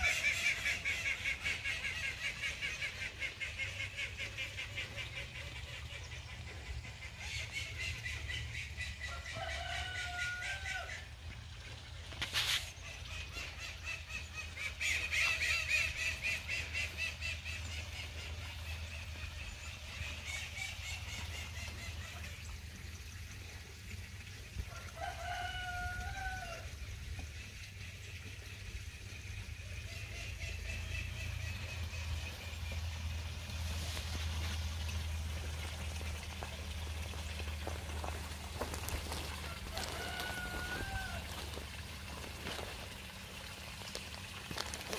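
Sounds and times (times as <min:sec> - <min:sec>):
low steady hum: 0:00.0 - 0:44.9
water splashing into pond: 0:00.0 - 0:44.9.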